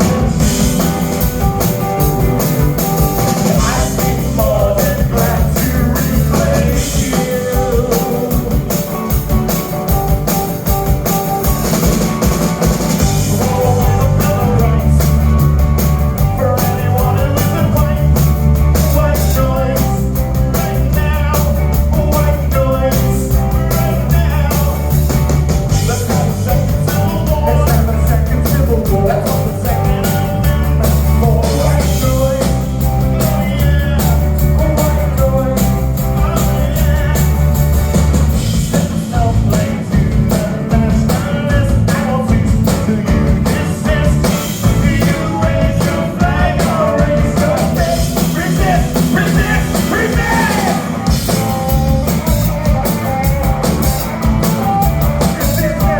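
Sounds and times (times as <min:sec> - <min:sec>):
man singing lead: 0:00.0 - 0:01.7, 0:03.0 - 0:09.3, 0:12.9 - 0:37.7, 0:38.3 - 0:53.3, 0:54.5 - 0:55.9
live rock band playing: 0:00.0 - 0:55.9.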